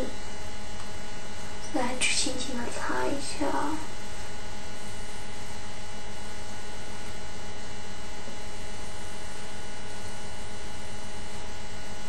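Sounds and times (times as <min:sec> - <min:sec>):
electrical hum: 0:00.0 - 0:12.0
steady hiss: 0:00.0 - 0:12.0.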